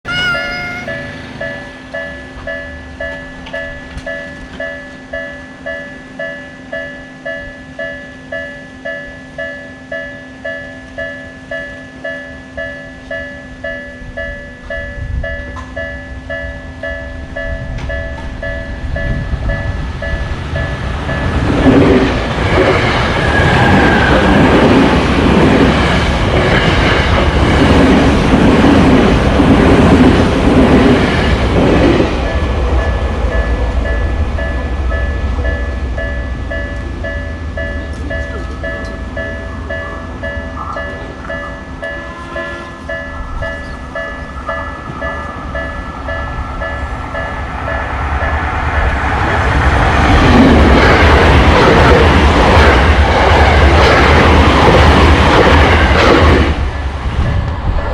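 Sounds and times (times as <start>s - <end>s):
railroad crossing bell ringing: 0.1s - 53.9s
train passing with wheel clatter: 0.1s - 57.9s.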